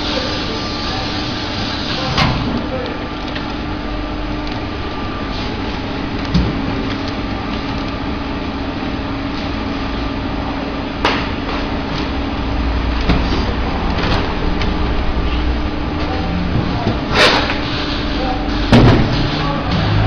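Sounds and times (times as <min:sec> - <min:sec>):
packaging machine humming: 0:00.0 - 0:20.0.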